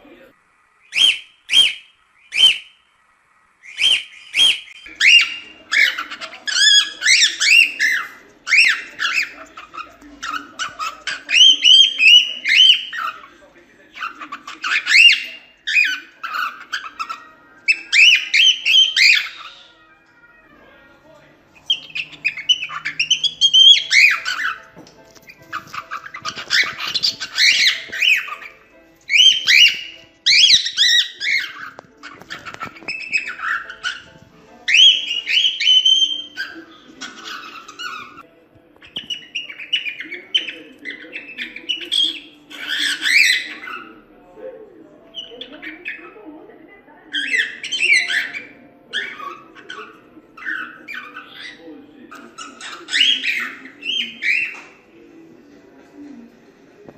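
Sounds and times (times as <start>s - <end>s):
cockatiel whistling: 0.8s - 2.8s, 3.6s - 13.2s, 14.0s - 19.8s, 21.6s - 38.2s, 38.8s - 43.9s, 47.2s - 54.7s.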